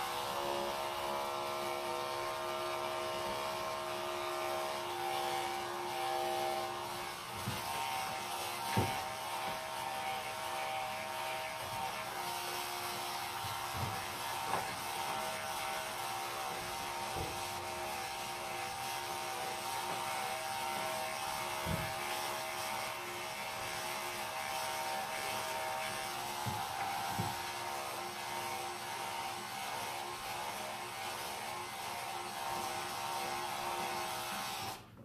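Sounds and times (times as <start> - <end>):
electric clippers buzzing: 0.0 - 35.0.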